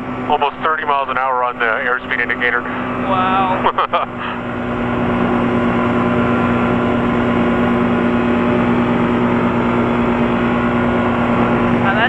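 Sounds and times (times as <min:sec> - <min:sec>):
aircraft engine hum: 0:00.0 - 0:12.0.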